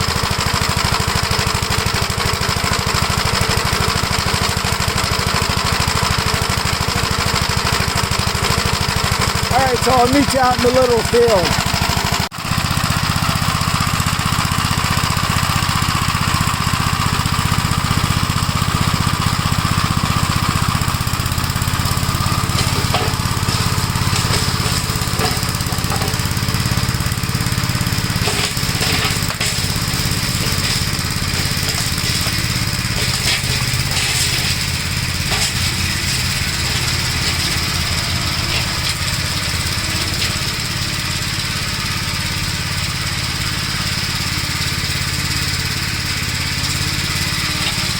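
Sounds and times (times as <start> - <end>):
single-cylinder engine running: 0.0 - 47.9.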